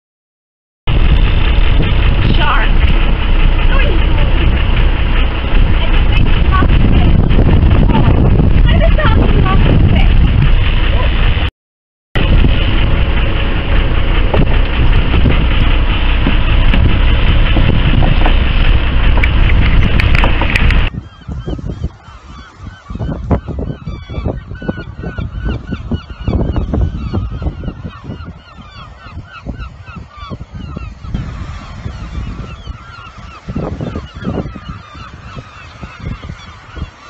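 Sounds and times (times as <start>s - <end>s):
loud steady rushing noise: 0.9s - 11.5s, 12.2s - 37.0s
gulls calling: 1.0s - 11.2s, 12.2s - 37.0s.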